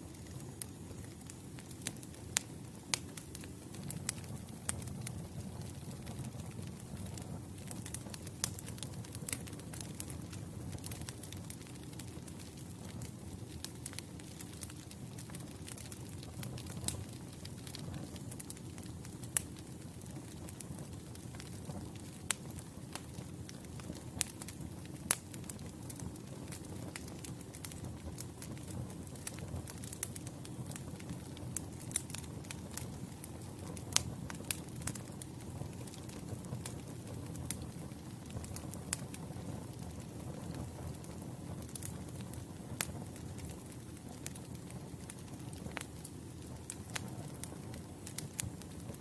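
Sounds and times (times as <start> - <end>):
campfire crackling and popping: 0.0 - 49.0.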